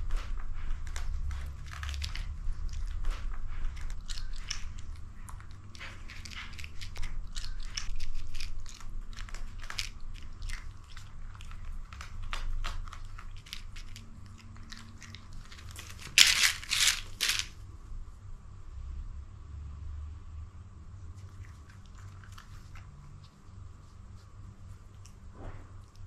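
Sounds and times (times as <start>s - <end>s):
cats crunching dry kibble: 0.0s - 17.6s, 21.2s - 26.0s.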